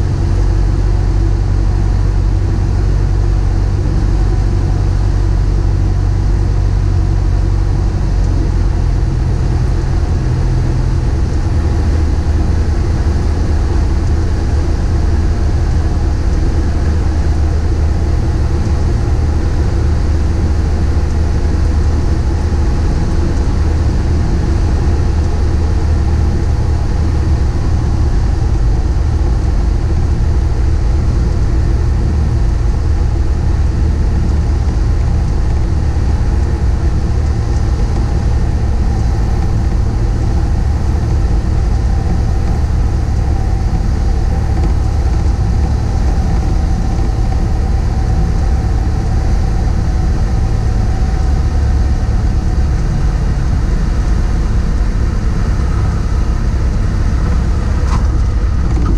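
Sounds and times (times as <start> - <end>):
light aircraft engine drone: 0.0 - 58.9.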